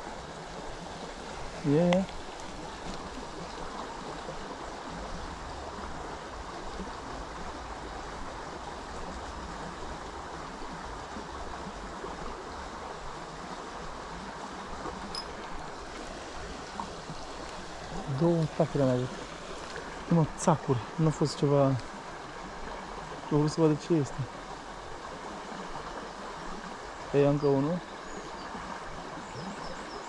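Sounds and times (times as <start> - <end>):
creek flowing: 0.0 - 30.0.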